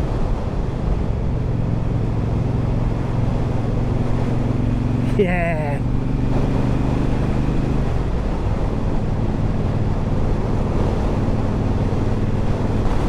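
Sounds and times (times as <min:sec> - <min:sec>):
wind noise on microphone: 0:00.0 - 0:05.1, 0:05.8 - 0:13.0.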